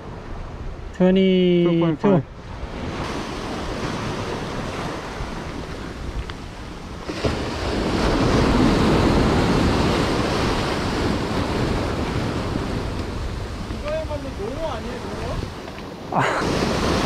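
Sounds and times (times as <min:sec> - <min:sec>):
ocean surf breaking on rocks: 0:00.0 - 0:17.0.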